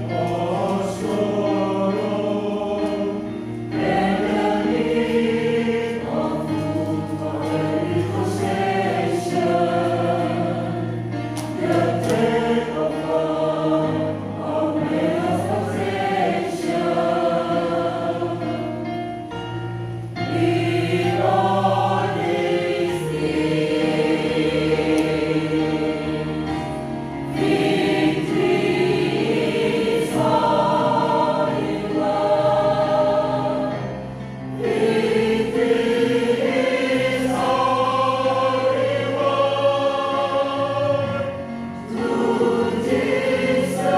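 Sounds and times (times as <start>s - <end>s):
choir singing gospel song: 0.0s - 43.9s.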